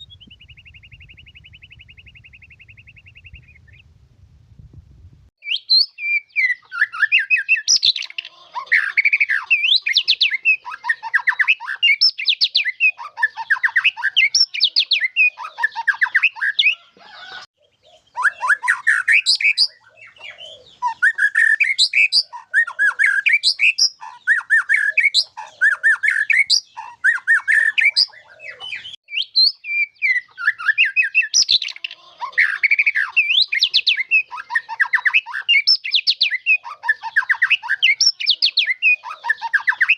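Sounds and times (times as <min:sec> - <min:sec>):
bird singing whistles and chatter: 0:00.0 - 0:03.8, 0:05.4 - 0:17.4, 0:18.0 - 0:39.9.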